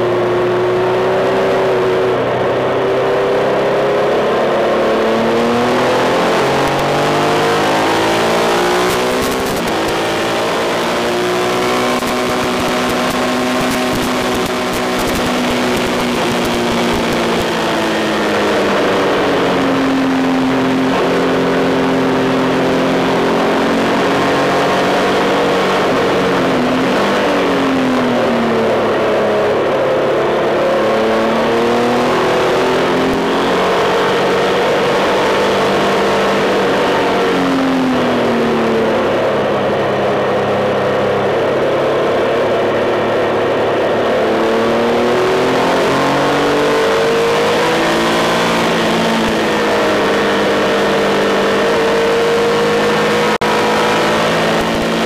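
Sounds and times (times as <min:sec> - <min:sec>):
motorcycle engine accelerating: 0:00.0 - 0:55.0
wind and road noise: 0:00.0 - 0:55.0.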